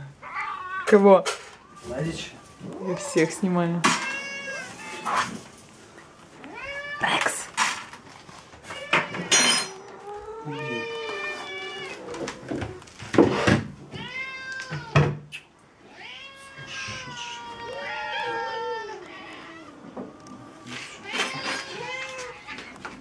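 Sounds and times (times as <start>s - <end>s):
cats meowing: 0.0s - 23.0s.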